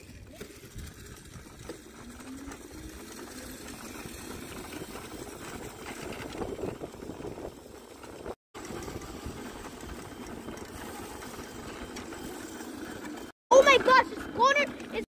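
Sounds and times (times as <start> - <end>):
electric motors whirring: 0.0 - 15.0
tyre and road rumble: 0.0 - 15.0
rising motor whine: 0.4 - 13.3.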